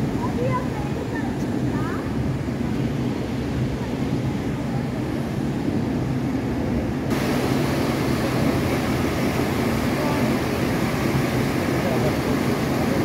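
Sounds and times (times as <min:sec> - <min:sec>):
water rushing through sluice: 0:00.0 - 0:13.0.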